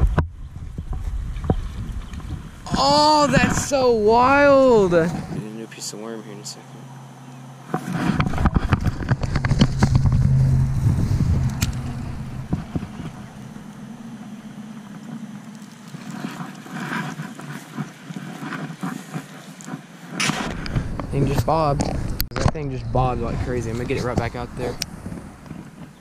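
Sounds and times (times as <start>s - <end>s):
wind rumbling on microphone: 0.0s - 5.5s, 7.7s - 26.0s.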